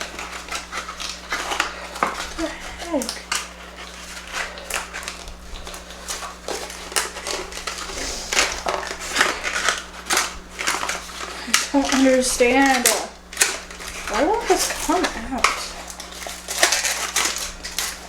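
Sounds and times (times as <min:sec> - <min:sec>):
crinkling and rustling: 0:00.0 - 0:18.0.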